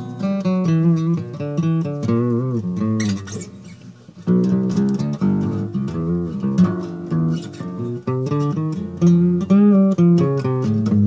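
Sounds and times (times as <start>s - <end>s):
guitar-led song: 0.0s - 11.0s.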